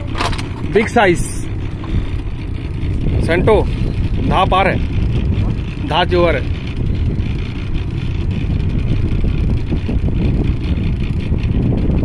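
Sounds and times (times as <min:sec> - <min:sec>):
boat engine rumbling: 0:00.0 - 0:12.0
wind on microphone: 0:00.0 - 0:12.0.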